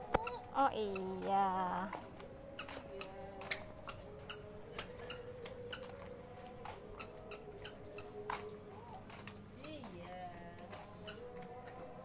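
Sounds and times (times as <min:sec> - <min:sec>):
footsteps on brick path: 0:00.1 - 0:12.0.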